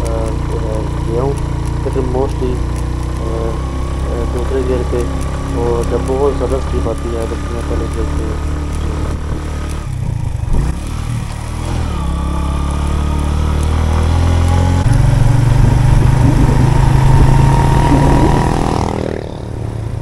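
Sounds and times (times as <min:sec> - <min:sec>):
motorcycle engine under load: 0:00.0 - 0:20.0.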